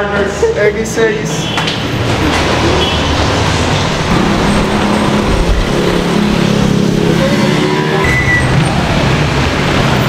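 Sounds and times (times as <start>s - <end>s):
vehicles passing on busy street: 0.0s - 10.0s.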